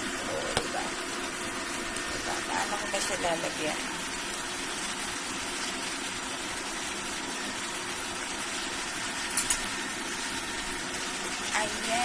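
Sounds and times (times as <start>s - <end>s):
curry hissing in a pan: 0.0s - 12.0s.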